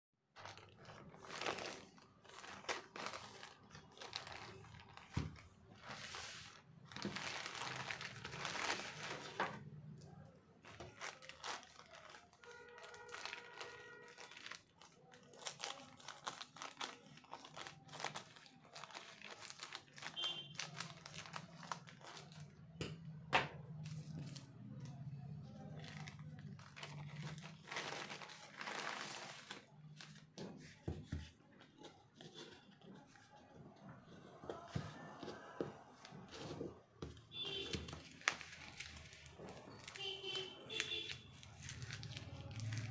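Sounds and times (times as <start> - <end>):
packaging crinkling and tearing: 0.4 - 22.8, 23.8 - 30.8, 37.4 - 42.9.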